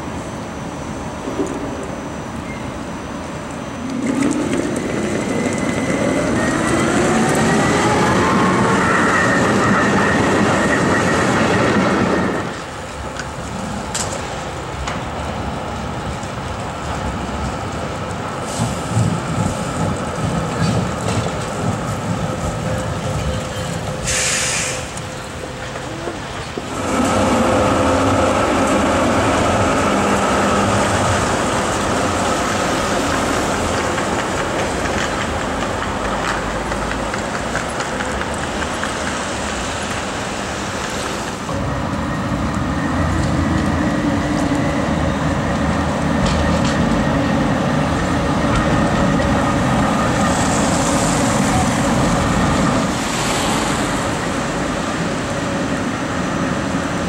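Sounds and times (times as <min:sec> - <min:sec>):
trams and traffic rumbling hiss: 0:00.0 - 0:57.0.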